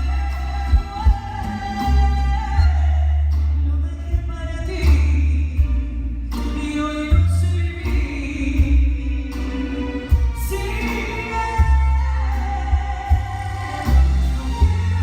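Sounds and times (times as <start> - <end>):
heavy bass: 0.0 - 15.0
live band playing: 0.0 - 15.0
woman singing: 0.0 - 15.0.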